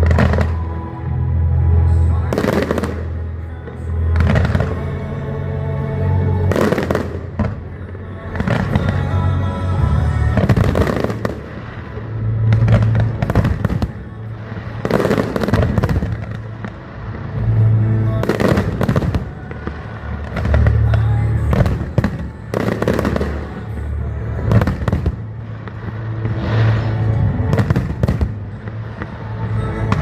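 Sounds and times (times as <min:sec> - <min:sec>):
fireworks bursting and crackling: 0:00.0 - 0:05.1, 0:06.4 - 0:30.0
loud music with deep bass: 0:00.0 - 0:30.0.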